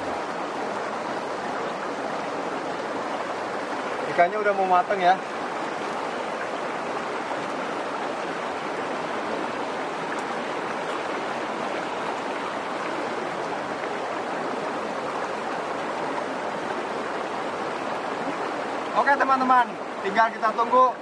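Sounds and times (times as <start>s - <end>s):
stream running over rocks: 0.0s - 21.0s.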